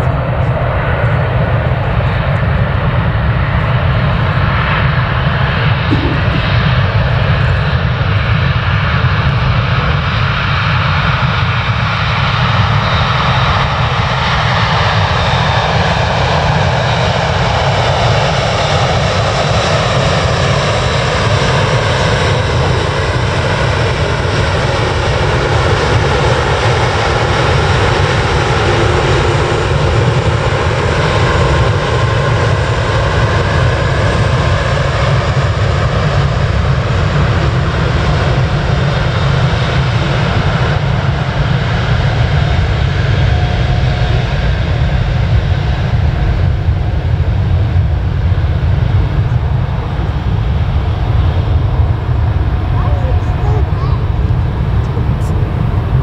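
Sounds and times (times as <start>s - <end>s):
jet airliner engines passing: 0.0s - 56.0s.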